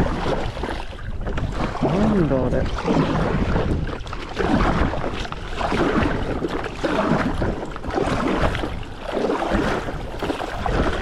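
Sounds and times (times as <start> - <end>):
water slapping against paddleboard: 0.0 - 11.0.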